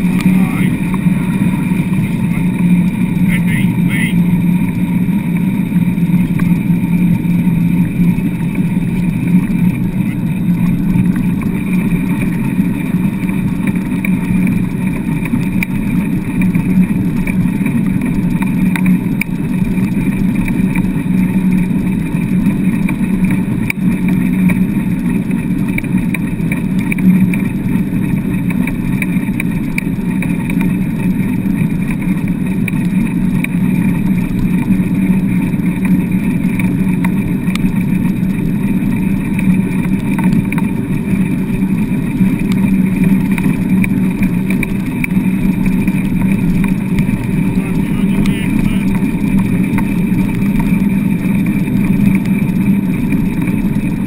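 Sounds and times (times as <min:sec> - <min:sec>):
wheels rumbling over wet sand: 0:00.0 - 0:54.0.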